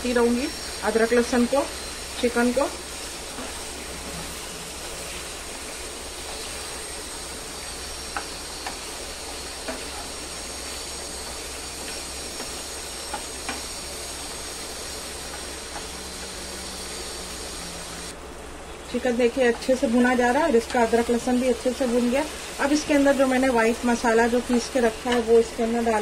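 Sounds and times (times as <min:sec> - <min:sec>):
food sizzling in hot oil: 0:00.0 - 0:18.2, 0:19.1 - 0:26.0.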